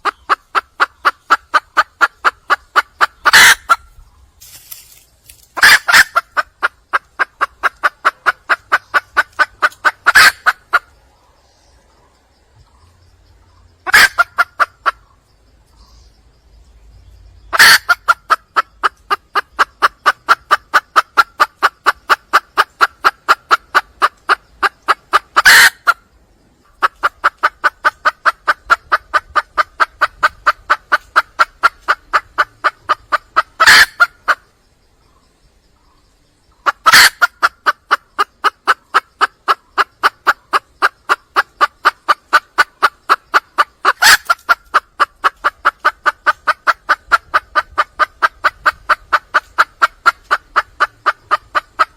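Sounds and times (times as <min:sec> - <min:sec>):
junglefowl hen clucking: 0:00.0 - 0:51.9.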